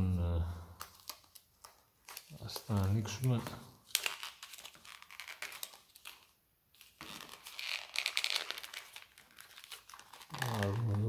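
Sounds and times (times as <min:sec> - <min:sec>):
plastic packet crinkling: 0:00.8 - 0:11.0.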